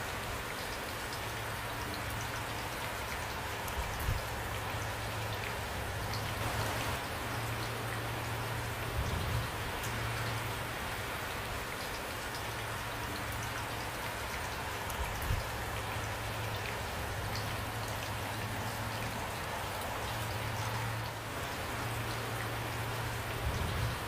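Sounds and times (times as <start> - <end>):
steady rain falling: 0.0 - 24.0
raindrops ticking: 0.1 - 24.0.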